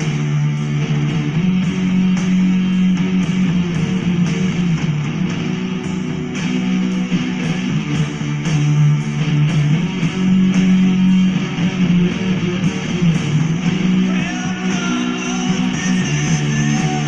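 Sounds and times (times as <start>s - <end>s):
guitar music through small speakers: 0.0s - 17.0s.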